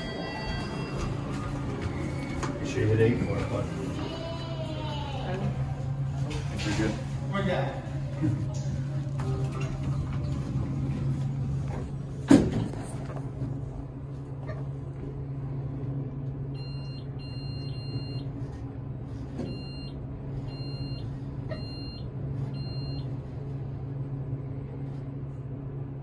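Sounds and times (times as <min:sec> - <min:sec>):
elevator car humming: 0:00.0 - 0:26.0.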